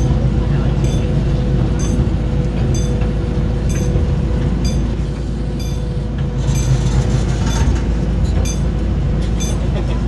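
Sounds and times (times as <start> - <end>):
miniature train rumbling: 0.0 - 10.0
wheels clicking over rail joints: 0.8 - 10.0.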